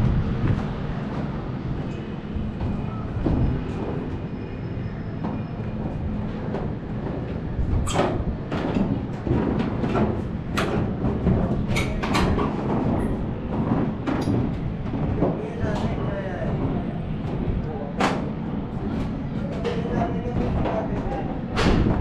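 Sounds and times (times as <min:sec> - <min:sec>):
clanks and knocks: 0:00.0 - 0:22.0
train rumbling over bridge: 0:00.0 - 0:22.0.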